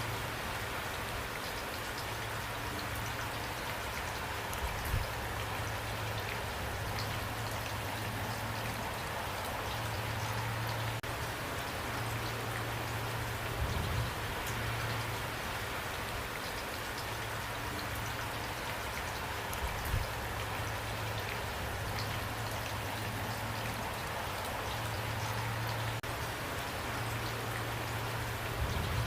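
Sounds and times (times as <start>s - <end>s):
rain falling: 0.0s - 29.0s
raindrops ticking: 0.0s - 29.0s.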